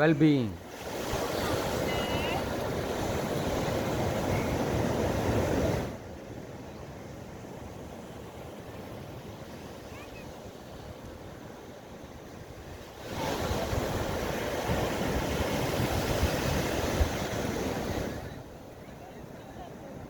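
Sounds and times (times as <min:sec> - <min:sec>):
ocean surf washing on beach: 0:00.0 - 0:20.0.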